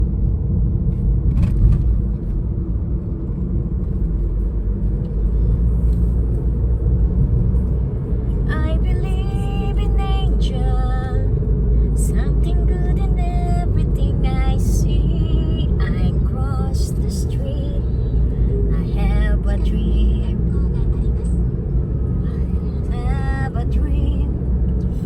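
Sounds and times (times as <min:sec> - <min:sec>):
loud low rumble: 0:00.0 - 0:25.0.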